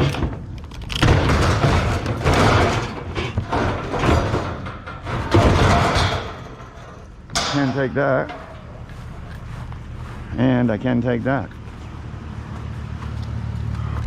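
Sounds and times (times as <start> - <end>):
scrap metal banging and scraping: 0.0 - 11.9.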